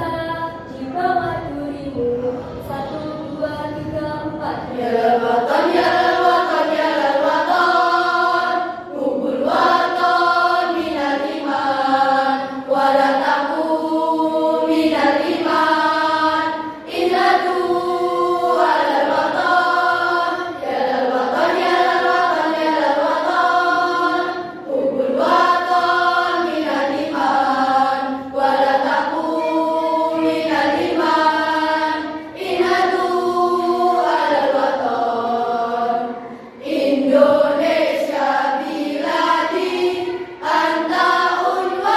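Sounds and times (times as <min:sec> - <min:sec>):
choir singing unaccompanied: 0:00.0 - 0:41.9.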